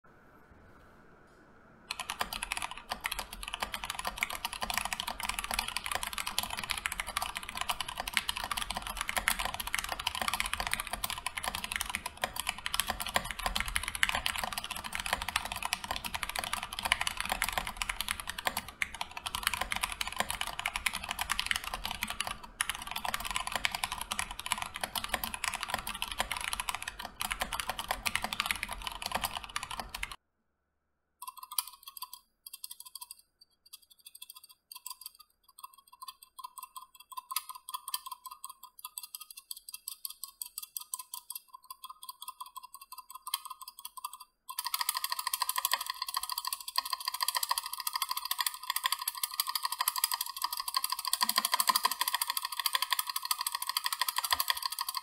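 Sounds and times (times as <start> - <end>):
mechanical keyboard typing: 1.9 - 30.2, 31.2 - 55.0.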